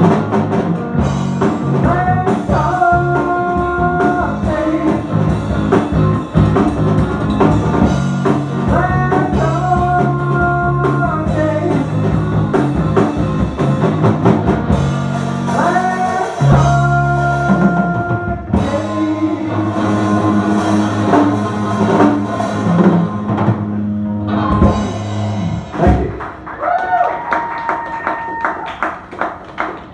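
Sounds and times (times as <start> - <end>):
live rock band playing: 0.0 - 26.5.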